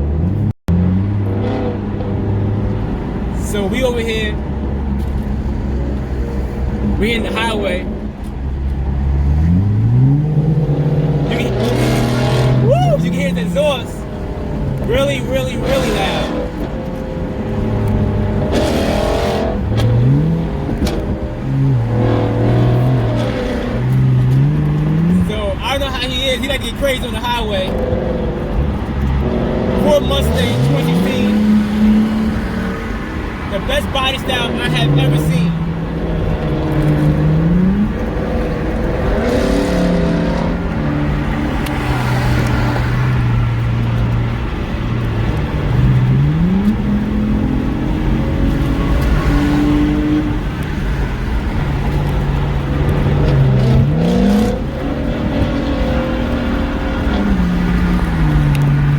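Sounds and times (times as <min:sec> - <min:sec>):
road noise: 0:00.0 - 0:58.9
loud car exhaust accelerating: 0:04.3 - 0:58.9.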